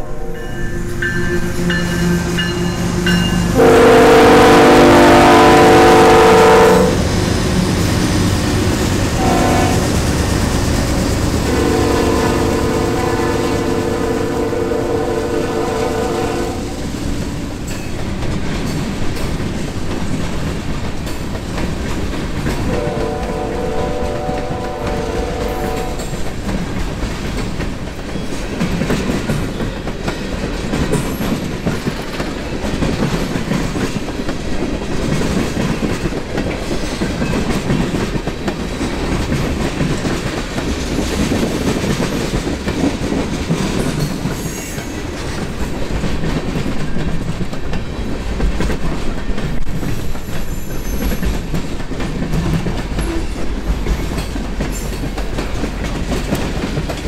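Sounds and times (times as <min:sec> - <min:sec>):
freight cars rolling on rails: 0:00.0 - 0:57.0.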